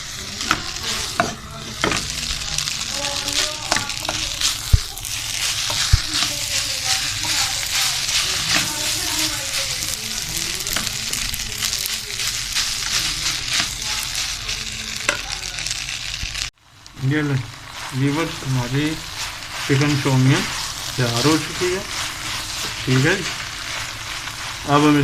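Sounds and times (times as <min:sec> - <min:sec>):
noodles sizzling in hot oil: 0:00.0 - 0:25.0
spatula scraping in pan: 0:00.0 - 0:25.0.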